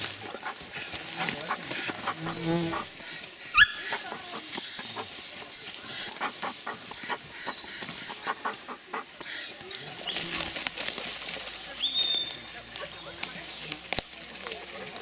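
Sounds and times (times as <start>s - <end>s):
dogs scuffling in dry leaves: 0.0s - 7.2s, 7.8s - 15.0s.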